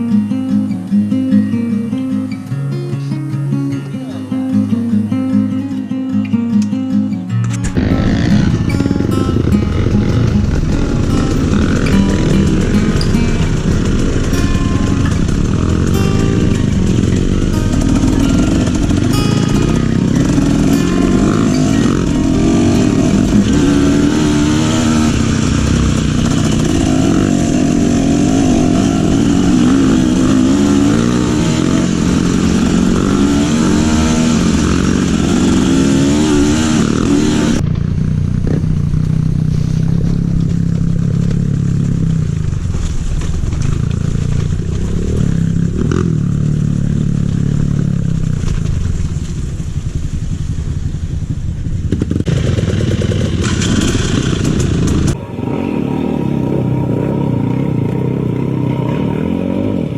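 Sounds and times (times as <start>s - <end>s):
motorcycle engine revving: 7.5s - 59.9s.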